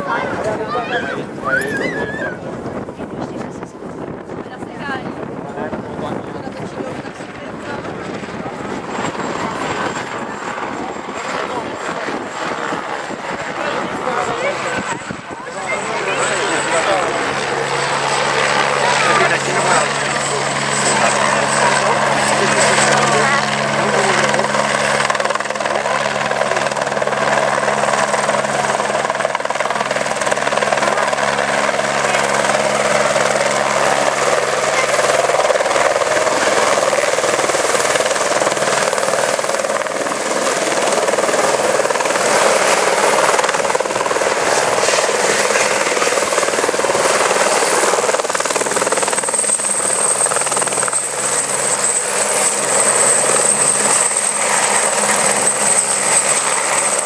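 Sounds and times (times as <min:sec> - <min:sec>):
helicopter rotor and engine: 0:00.0 - 0:57.0
high turbine whine: 0:00.0 - 0:57.0.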